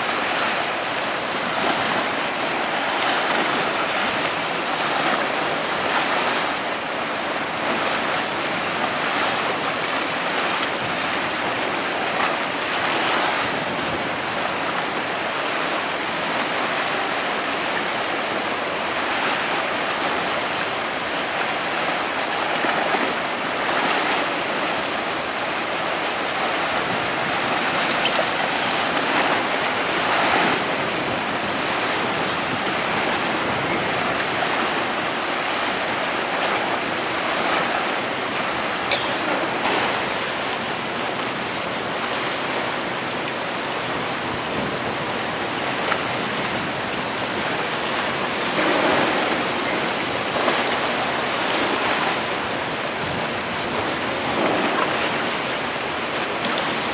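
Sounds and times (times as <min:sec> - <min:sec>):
rushing water: 0:00.0 - 0:56.9
wind: 0:00.0 - 0:56.9.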